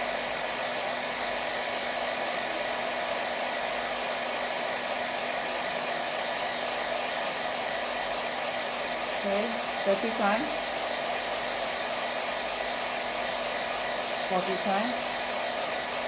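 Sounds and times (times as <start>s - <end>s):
fan whirring: 0.0s - 16.0s.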